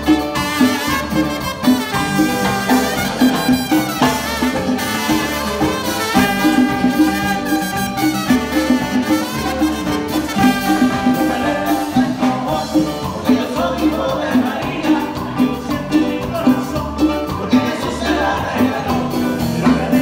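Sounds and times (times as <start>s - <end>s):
latin dance band playing: 0.0s - 20.0s.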